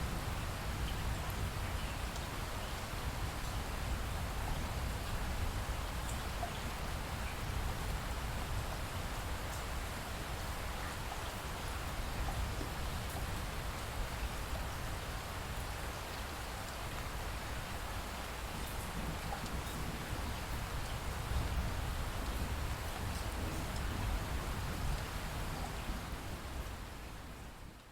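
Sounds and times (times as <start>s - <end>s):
light rain falling: 0.0s - 27.9s.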